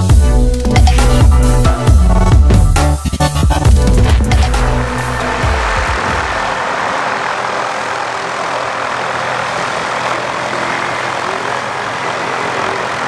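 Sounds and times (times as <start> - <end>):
aircraft engine drone: 0.0 - 13.0.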